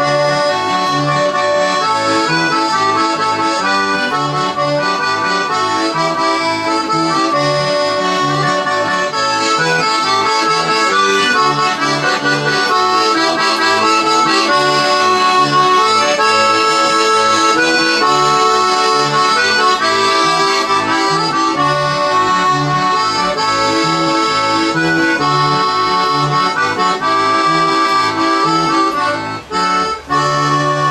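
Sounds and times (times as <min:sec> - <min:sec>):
held chords: 0:00.0 - 0:30.9.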